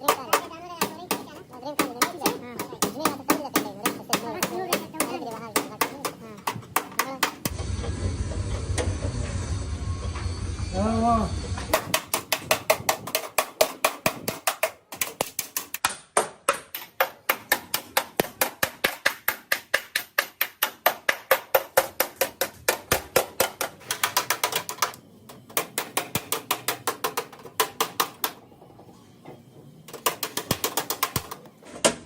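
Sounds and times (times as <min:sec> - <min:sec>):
hammer beating sheet metal: 0:00.0 - 0:07.6, 0:11.7 - 0:28.4, 0:29.9 - 0:31.4.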